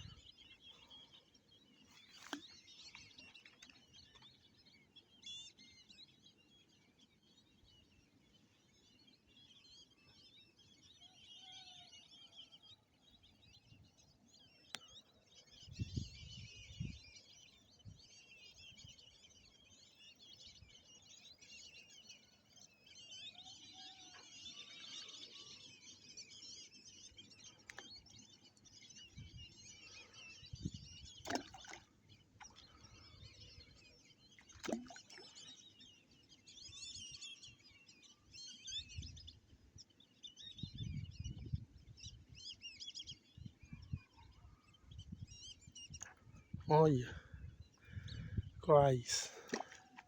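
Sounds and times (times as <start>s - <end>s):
birds chirping: 0.0s - 50.0s.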